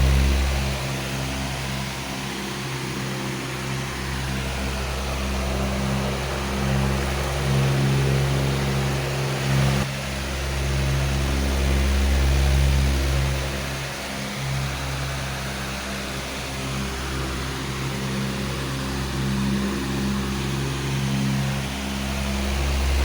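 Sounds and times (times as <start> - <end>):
electric fan running: 0.0 - 23.0.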